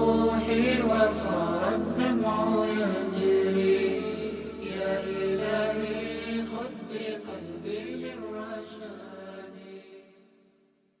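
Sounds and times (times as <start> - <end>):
layered a cappella voices: 0.0 - 10.2.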